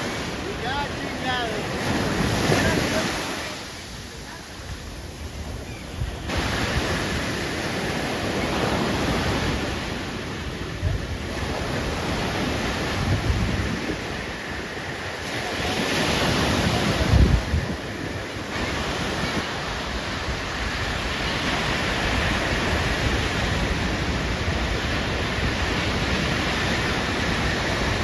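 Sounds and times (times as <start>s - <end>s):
surf breaking on beach: 0.0s - 28.0s
wind buffeting microphone: 0.0s - 28.0s.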